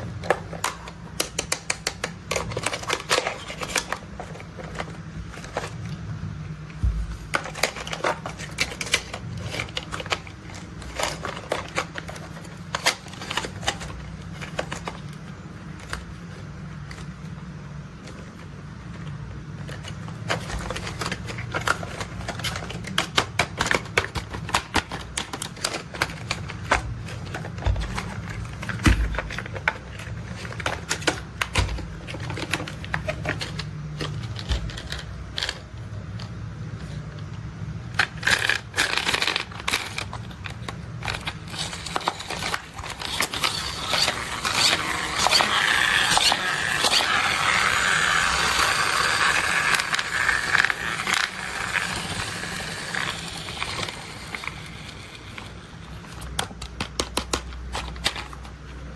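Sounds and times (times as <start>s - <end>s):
plastic toys clicking and rattling: 0.0s - 6.0s, 7.3s - 17.1s, 18.0s - 37.0s, 37.9s - 58.9s.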